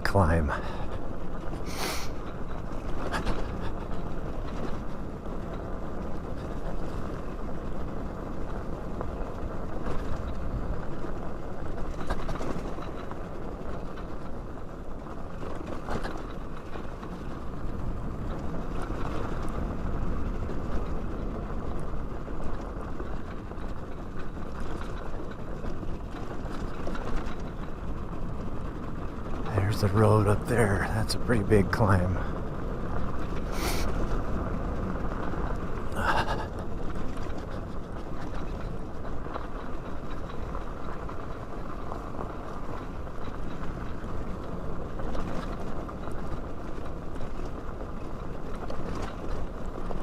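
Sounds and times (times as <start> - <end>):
tyres rumbling on dirt and gravel: 0.0 - 50.0.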